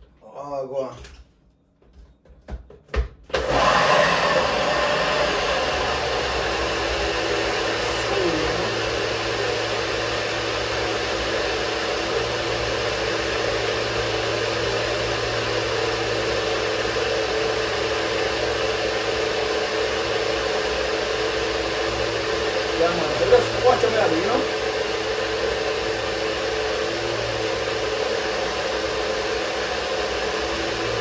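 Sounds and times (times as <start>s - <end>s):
electric blender running: 3.3s - 31.0s.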